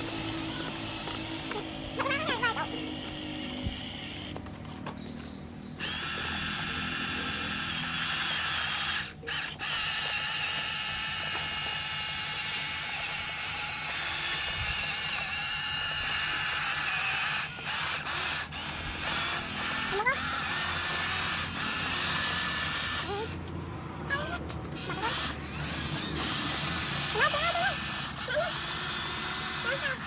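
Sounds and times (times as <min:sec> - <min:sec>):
electric motor and gearbox whining: 0:00.0 - 0:30.0.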